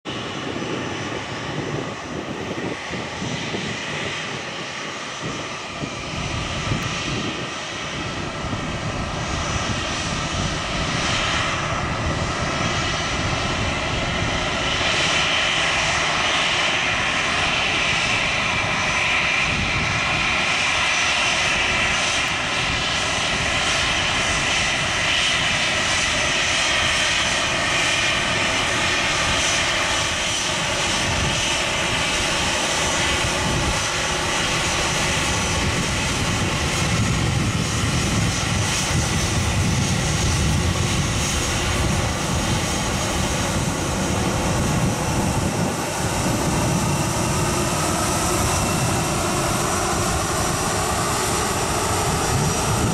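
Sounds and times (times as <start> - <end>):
jet engine whine and rumble: 0.0 - 52.9.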